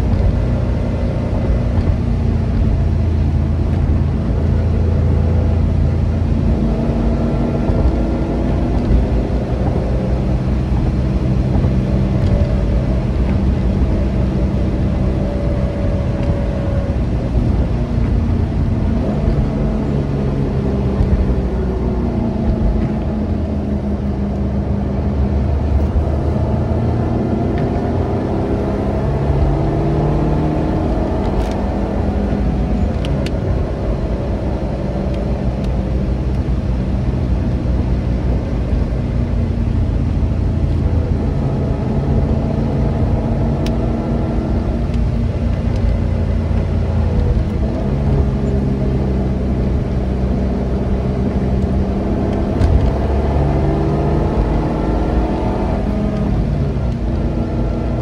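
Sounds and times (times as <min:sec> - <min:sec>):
car engine accelerating: 0:00.0 - 0:58.0
low road rumble: 0:00.0 - 0:58.0.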